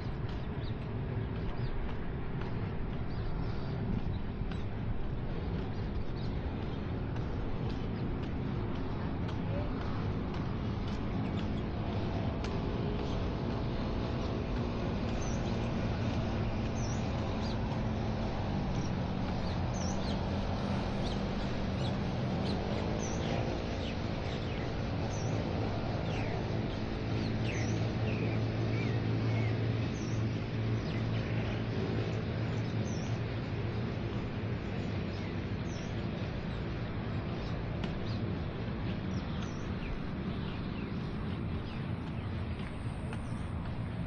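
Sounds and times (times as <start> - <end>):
low engine hum: 0.0 - 44.0
small birds chirping: 0.0 - 44.0.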